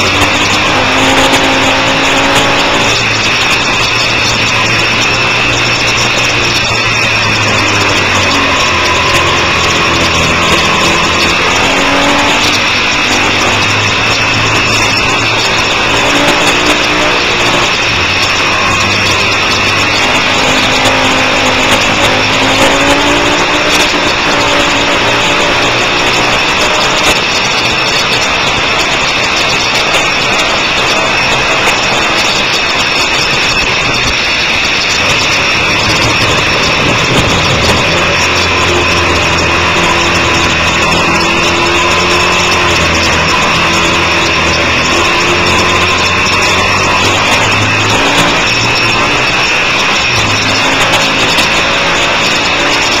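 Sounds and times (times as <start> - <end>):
motorcycle engine pulling hard: 0.0 - 53.0
wind rush: 0.0 - 53.0.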